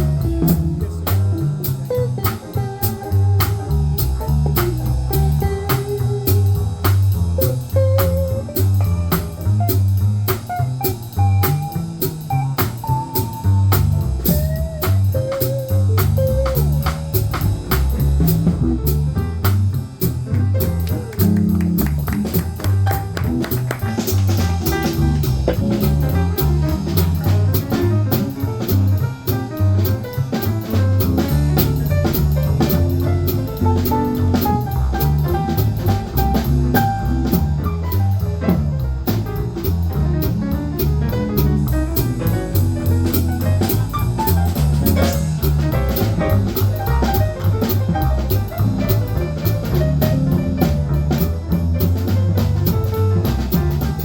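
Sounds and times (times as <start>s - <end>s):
drum kit cymbals: 0.0s - 54.0s
jazz group playing: 0.0s - 54.0s
low bass line: 0.0s - 54.0s.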